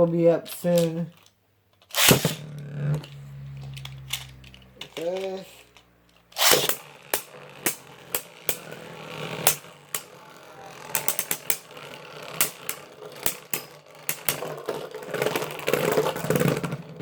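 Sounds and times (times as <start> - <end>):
plastic tops clicking and rattling: 0.1 - 17.0.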